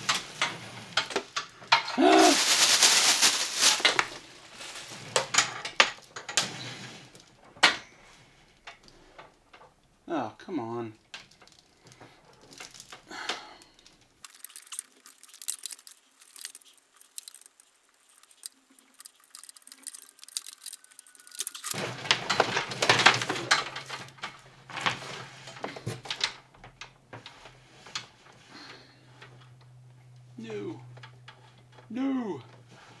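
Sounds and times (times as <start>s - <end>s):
electrical wire rustling and clicking: 0.0s - 10.0s, 11.0s - 33.0s.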